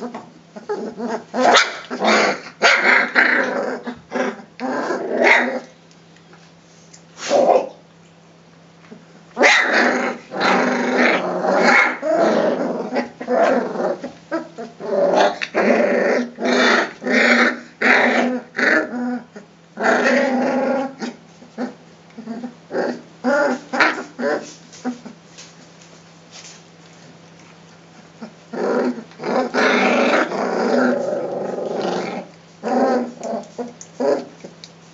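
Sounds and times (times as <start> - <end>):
puppies growling: 0.0 - 5.8, 8.8 - 25.5, 27.1 - 34.7.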